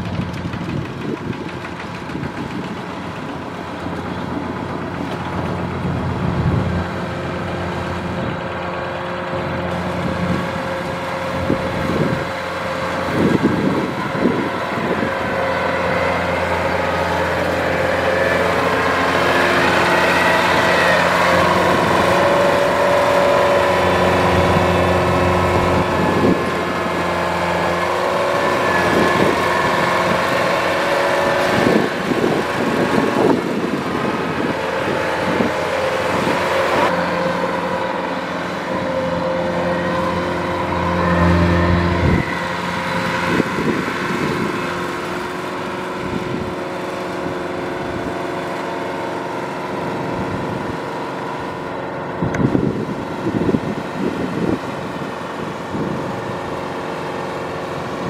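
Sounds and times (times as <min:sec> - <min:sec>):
harvester machinery drone: 0:00.0 - 0:58.0.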